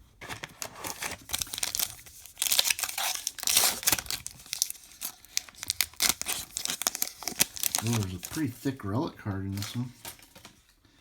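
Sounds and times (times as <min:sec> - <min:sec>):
wrapper tearing and crinkling: 0:00.2 - 0:08.8, 0:09.5 - 0:10.7.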